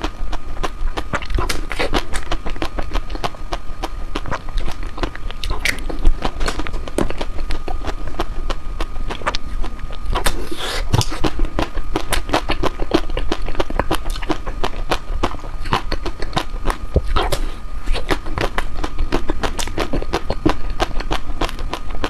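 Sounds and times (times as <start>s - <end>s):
biting and chewing ice cream: 0.0s - 22.0s.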